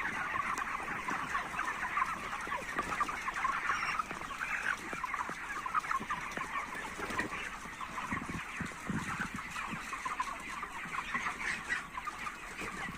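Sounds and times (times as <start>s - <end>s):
chickens clucking and peeping: 0.0s - 12.9s.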